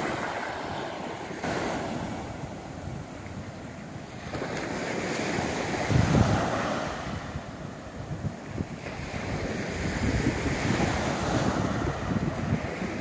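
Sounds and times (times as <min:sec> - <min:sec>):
waves breaking on sandy beach: 0:00.0 - 0:13.0
wind buffeting microphone: 0:00.0 - 0:13.0.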